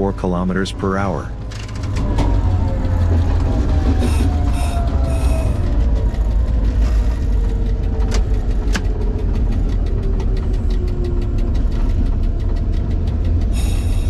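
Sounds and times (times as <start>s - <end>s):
diesel locomotive engine rumble: 0.0s - 14.0s
fast even clatter: 1.4s - 14.0s.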